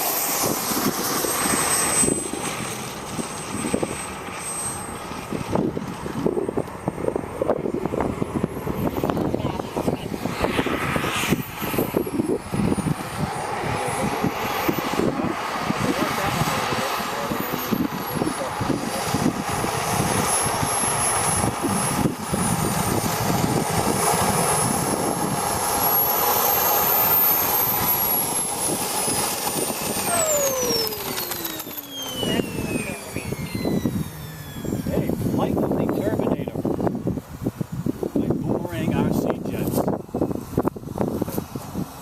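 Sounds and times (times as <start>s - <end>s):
rushing noise: 0.0s - 42.0s
turbine engine whining: 0.0s - 42.0s.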